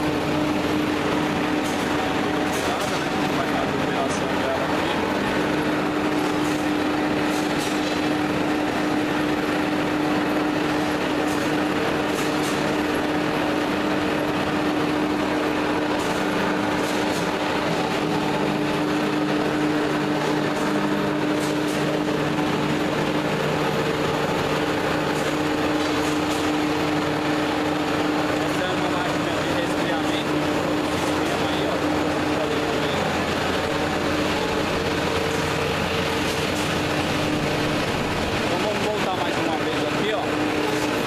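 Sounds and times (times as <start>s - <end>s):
machine hum with steady tone: 0.0s - 41.0s.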